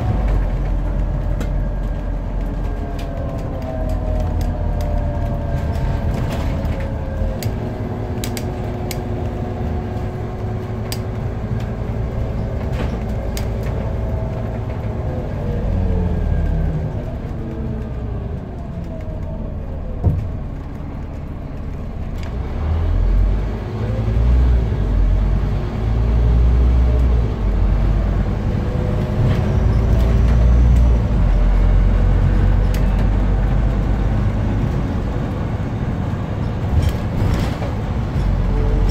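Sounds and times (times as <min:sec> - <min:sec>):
bus engine whine and rumble: 0:00.0 - 0:38.9.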